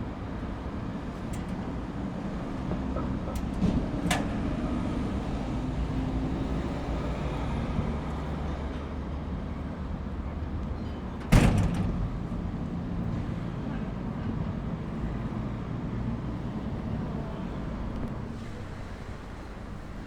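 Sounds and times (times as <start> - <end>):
rumble of passing vehicles: 0.0 - 20.0.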